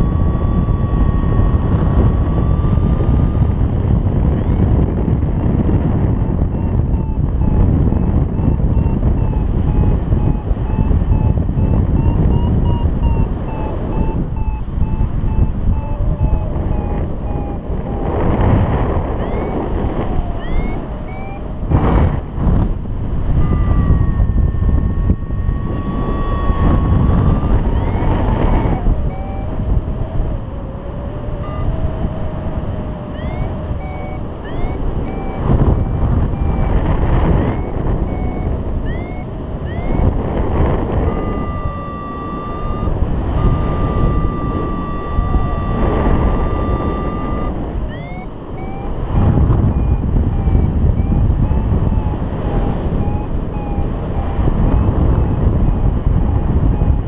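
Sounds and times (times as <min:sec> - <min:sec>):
variometer beeping: 0:00.0 - 0:57.0
wind noise on microphone: 0:00.0 - 0:57.0.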